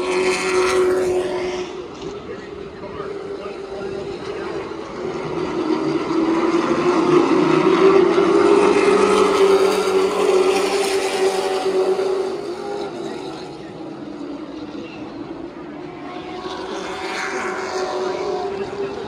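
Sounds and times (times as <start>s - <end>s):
race car engines passing: 0.0s - 19.0s.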